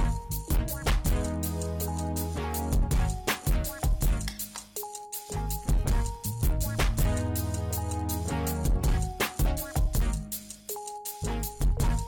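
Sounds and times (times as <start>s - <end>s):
background music with beat and bass: 0.0s - 12.0s.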